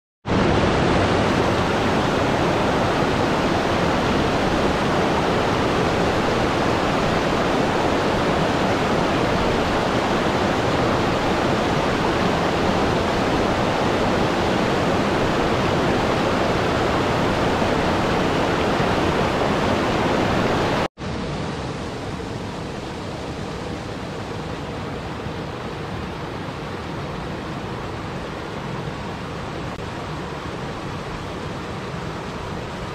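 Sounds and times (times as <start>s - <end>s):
waterfall rushing over rocks: 0.3s - 32.9s.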